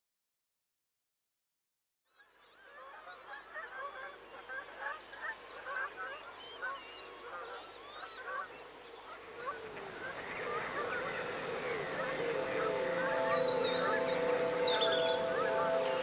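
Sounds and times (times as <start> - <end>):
geese honking: 2.7 - 16.0.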